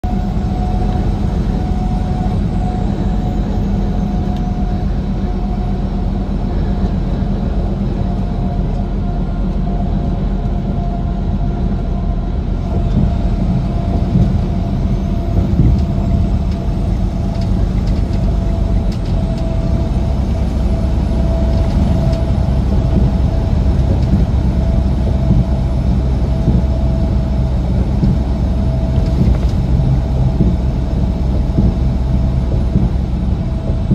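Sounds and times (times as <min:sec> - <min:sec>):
faint steady whine: 0:00.0 - 0:33.9
truck engine and tyres droning: 0:00.0 - 0:33.9.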